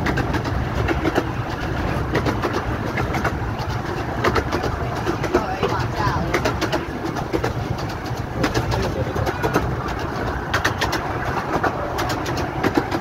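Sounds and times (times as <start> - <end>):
clicks and rattles of train: 0.0 - 13.0
miniature train running on track: 0.0 - 13.0.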